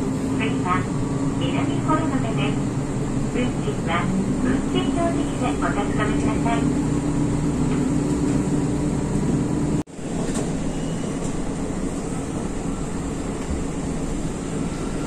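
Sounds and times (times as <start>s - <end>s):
train engine drone: 0.0s - 15.0s
wheel and track rumble: 0.0s - 15.0s.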